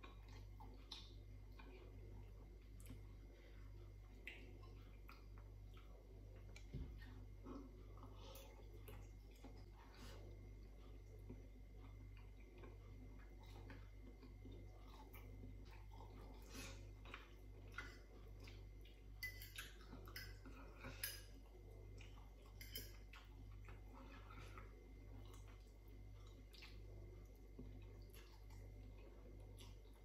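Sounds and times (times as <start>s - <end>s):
faint chewing of noodles: 0.0s - 30.0s.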